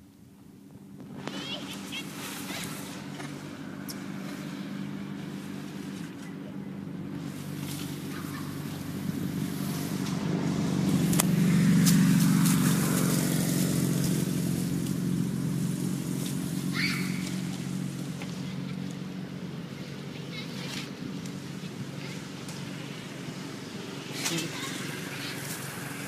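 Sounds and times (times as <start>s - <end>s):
motor vehicle engine droning: 0.0s - 26.0s.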